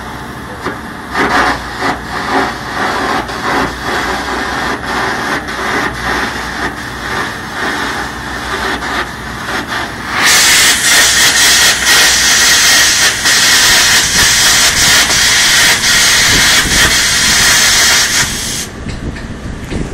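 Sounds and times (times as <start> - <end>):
arc welding crackle and hiss: 0.0 - 18.8.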